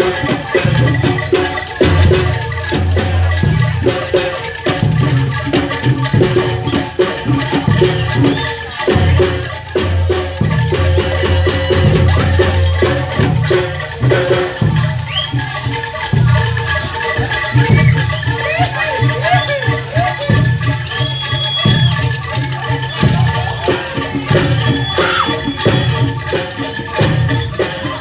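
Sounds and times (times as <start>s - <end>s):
drum and gong beats: 0.0s - 28.0s
ringing metallophone notes: 0.0s - 28.0s
shaken percussion: 0.0s - 28.0s.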